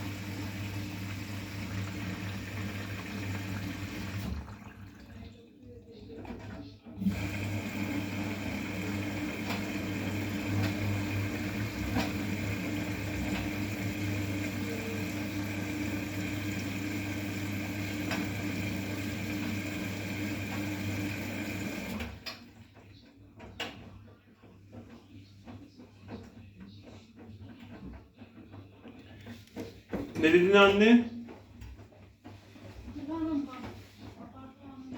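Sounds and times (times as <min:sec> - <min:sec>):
washing machine hum: 0:00.0 - 0:34.9.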